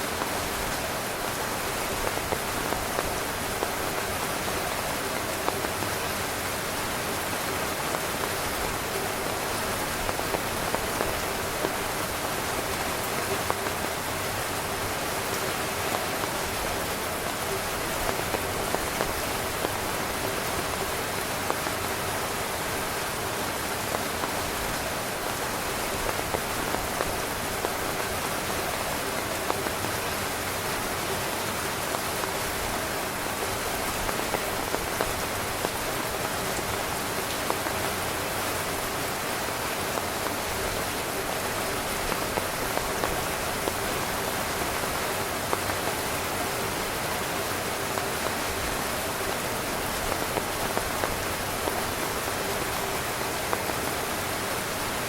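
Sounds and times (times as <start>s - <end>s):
rain falling on a tent: 0.0s - 55.0s.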